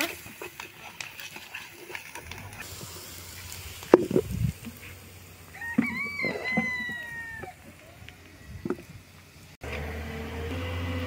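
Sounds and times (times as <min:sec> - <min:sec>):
onions sizzling in pan: 0:00.0 - 0:09.5.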